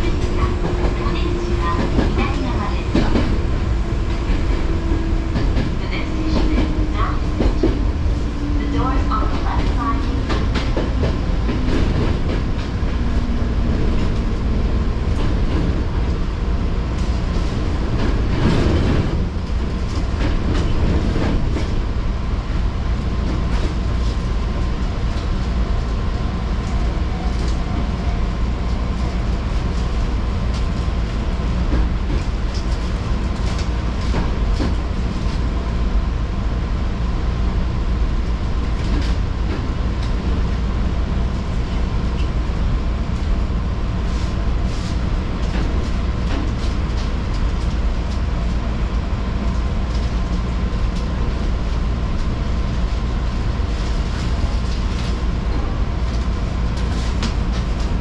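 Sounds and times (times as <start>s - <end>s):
train rumble inside carriage: 0.0s - 58.0s.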